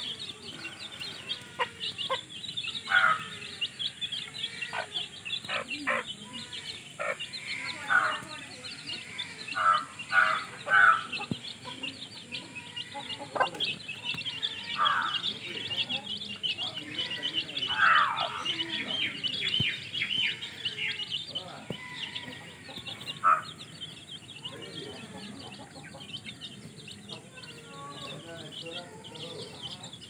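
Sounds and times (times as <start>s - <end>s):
hen clucking: 0.0s - 29.9s
chicks peeping: 0.0s - 30.0s.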